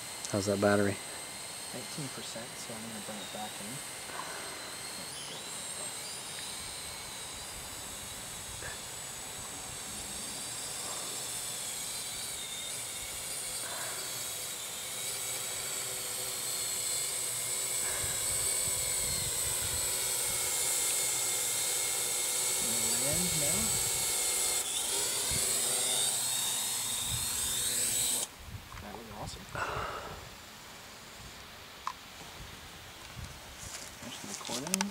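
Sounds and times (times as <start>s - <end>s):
drone motors and propellers whining: 0.0s - 34.9s.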